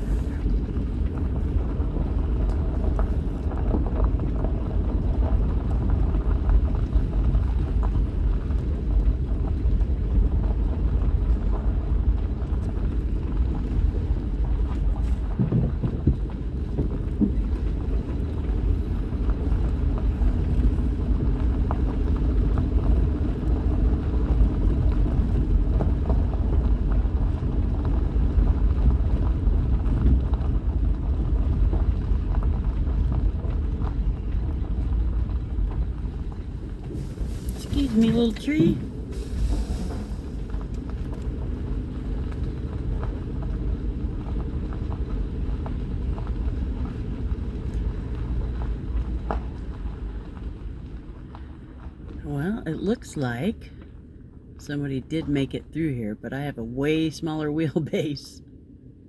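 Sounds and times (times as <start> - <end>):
engine and tyres rumbling: 0.0 - 59.0.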